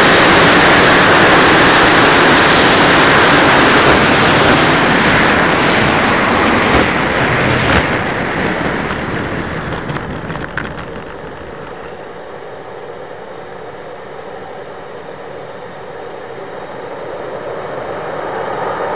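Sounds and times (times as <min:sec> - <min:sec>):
model jet rolling over grass: 0:00.0 - 0:18.9
quiet steady running sound: 0:00.0 - 0:18.9.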